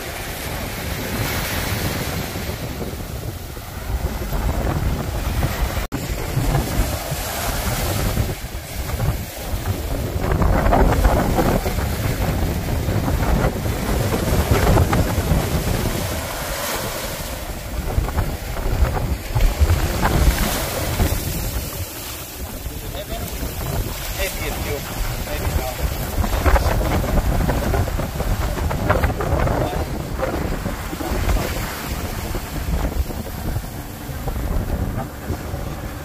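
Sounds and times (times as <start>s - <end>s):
waves breaking on sandy beach: 0.0s - 36.0s
wind buffeting microphone: 0.0s - 36.0s.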